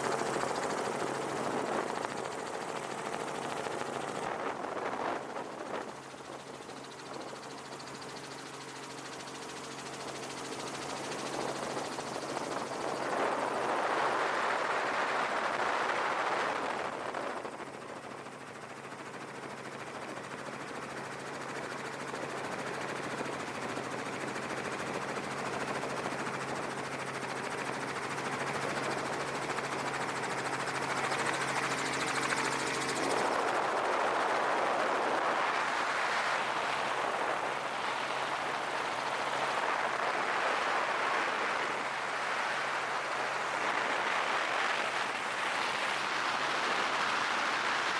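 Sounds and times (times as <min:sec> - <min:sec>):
helicopter engine drone: 0:00.0 - 0:47.9
helicopter rotor chopping: 0:00.0 - 0:47.9.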